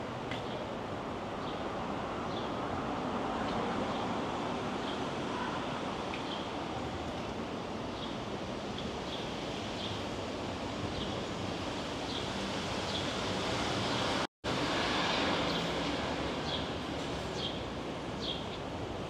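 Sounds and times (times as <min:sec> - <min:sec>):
traffic wash: 0:00.0 - 0:19.0.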